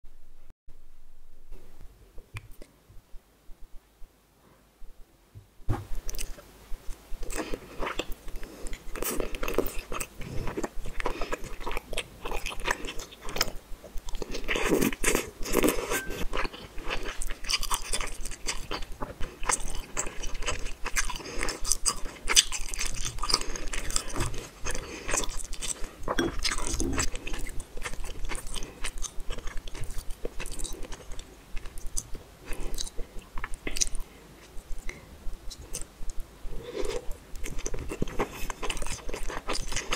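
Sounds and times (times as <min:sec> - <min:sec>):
close chewing with mouth clicks: 0:06.0 - 0:39.9.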